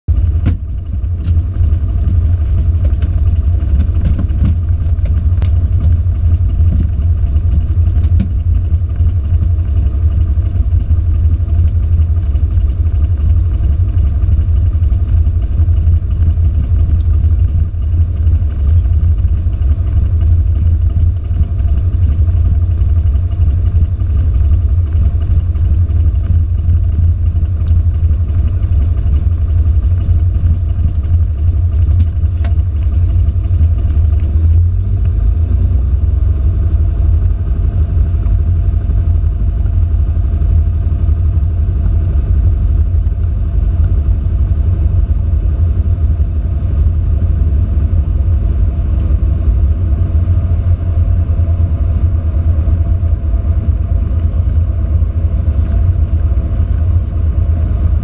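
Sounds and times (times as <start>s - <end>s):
airplane engine drone in cabin: 0.0s - 58.0s.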